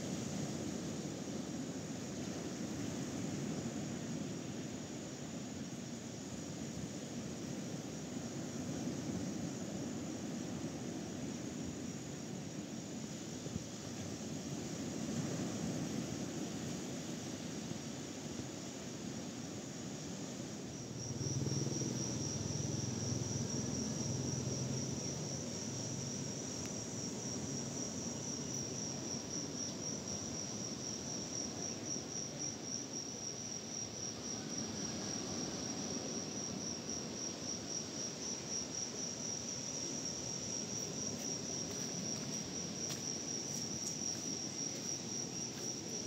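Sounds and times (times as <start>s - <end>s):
crickets chirping: 0.0s - 46.0s.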